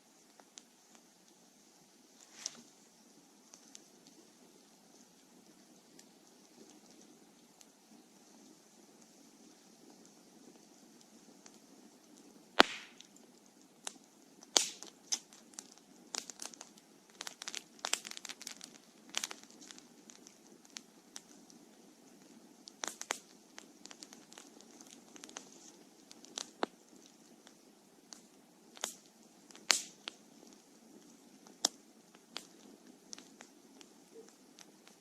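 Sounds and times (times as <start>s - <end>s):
campfire crackling and popping: 0.0s - 35.0s
low fire hiss: 0.0s - 35.0s.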